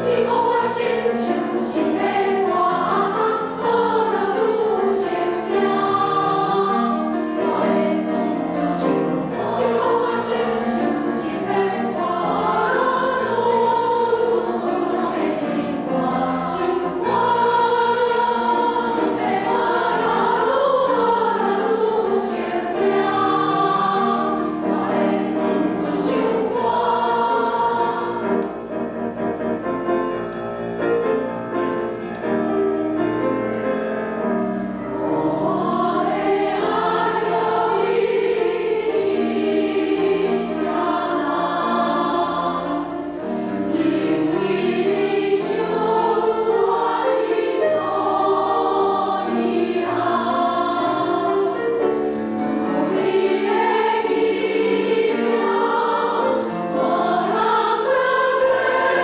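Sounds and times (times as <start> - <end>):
women's choir singing a hymn: 0.0 - 30.4, 31.0 - 59.0.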